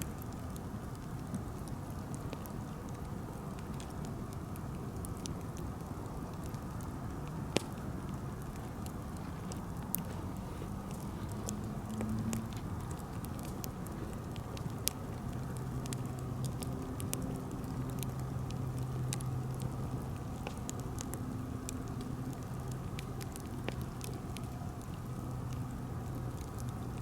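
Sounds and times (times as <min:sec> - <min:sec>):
campfire crackling and popping: 0:00.0 - 0:27.0
low rush of flames: 0:00.0 - 0:27.0.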